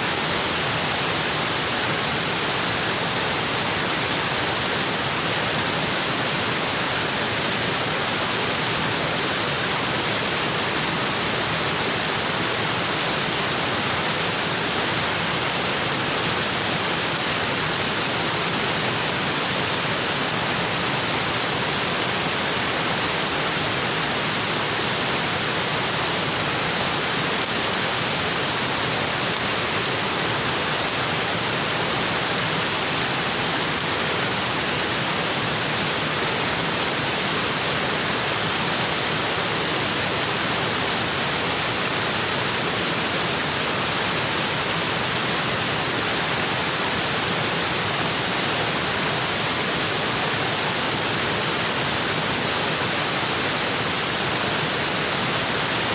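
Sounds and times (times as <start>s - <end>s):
waterfall falling onto rocks: 0.0s - 55.9s.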